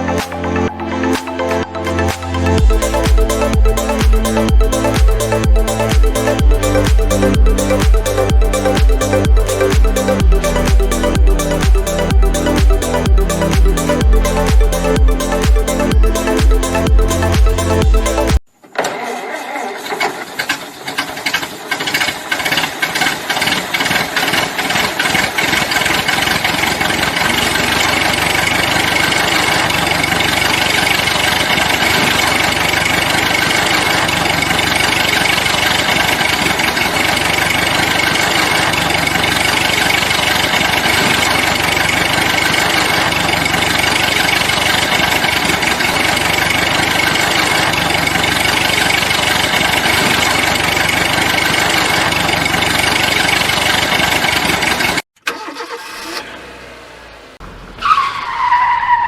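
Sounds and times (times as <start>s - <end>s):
engine starting and running: 0.0s - 59.0s.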